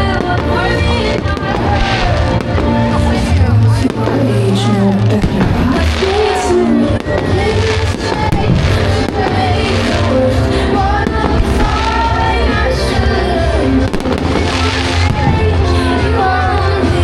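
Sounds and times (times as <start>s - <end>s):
firework bangs: 0.0s - 17.0s
pop music with singing: 0.0s - 17.0s.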